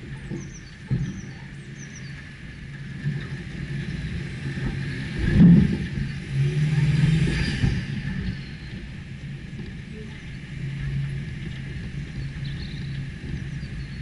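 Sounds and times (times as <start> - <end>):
car engine running: 2.6 - 14.0.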